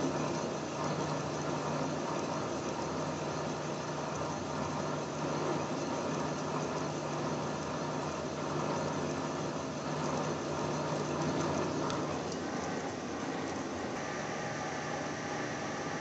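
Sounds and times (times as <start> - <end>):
metal lathe running: 0.0 - 16.0.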